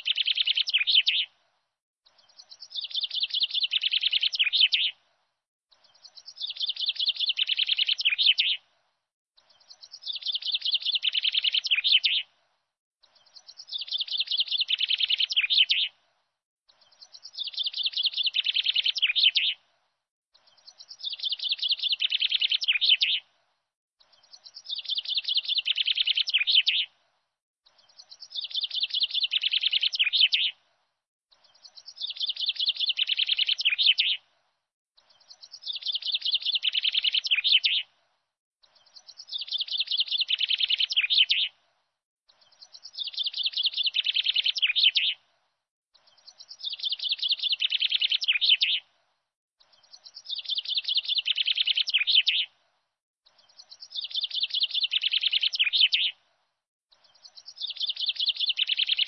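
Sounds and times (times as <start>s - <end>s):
rapid bird chirping: 0.0s - 1.3s, 2.0s - 5.0s, 5.7s - 8.6s, 9.4s - 12.3s, 13.0s - 16.0s, 16.7s - 19.6s, 20.3s - 23.2s, 24.0s - 26.9s, 27.6s - 30.6s, 31.3s - 34.2s, 35.0s - 37.9s, 38.6s - 41.6s, 42.3s - 45.2s, 45.9s - 48.9s, 49.6s - 52.5s, 53.2s - 56.2s, 56.9s - 59.0s.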